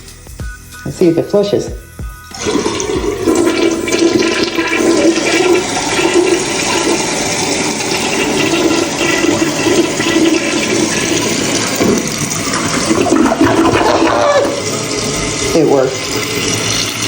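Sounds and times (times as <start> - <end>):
toilet flushing: 2.3 - 17.0.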